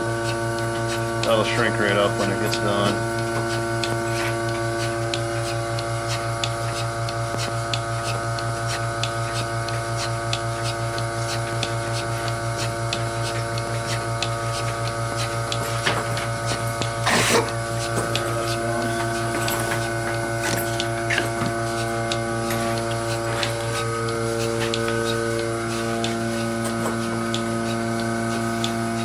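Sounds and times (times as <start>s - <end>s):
electric vacuum hum: 0.0s - 29.0s
pulsator clicking: 0.2s - 29.0s.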